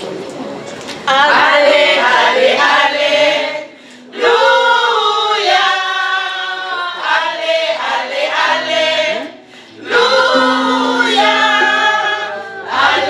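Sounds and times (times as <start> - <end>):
small choir singing: 1.1 - 13.0.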